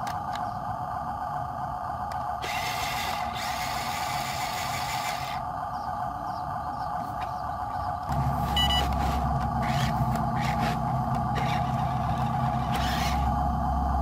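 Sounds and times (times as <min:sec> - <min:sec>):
electric motor and gearbox whining: 0:00.0 - 0:00.8, 0:02.0 - 0:14.0.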